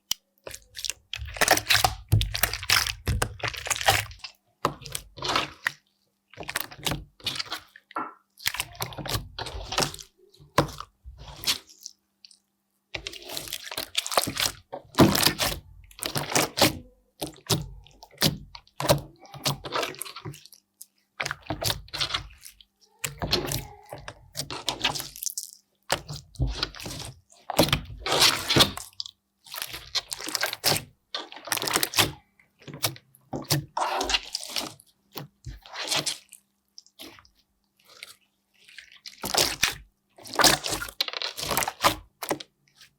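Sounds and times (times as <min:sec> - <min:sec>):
slime squished by hand: 0:00.0 - 0:12.4, 0:13.0 - 0:20.6, 0:21.2 - 0:42.9.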